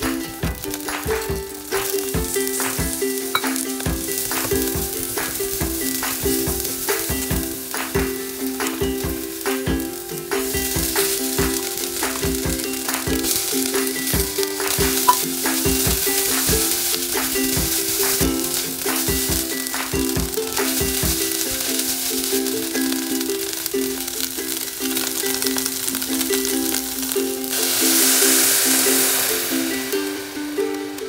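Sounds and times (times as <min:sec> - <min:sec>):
background music with beat: 0:00.0 - 0:31.0
oil sizzling in a saucepan: 0:00.0 - 0:31.0.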